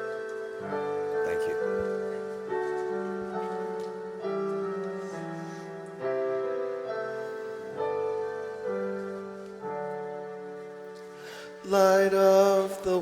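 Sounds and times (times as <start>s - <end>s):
piano playing slow chords: 0.0s - 13.0s.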